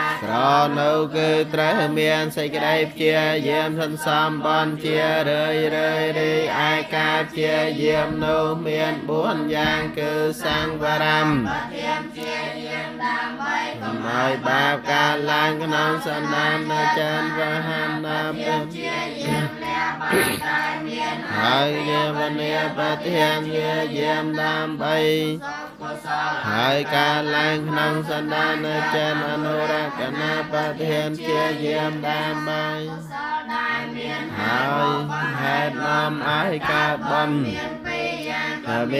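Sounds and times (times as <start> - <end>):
group chanting in unison: 0.0 - 38.9.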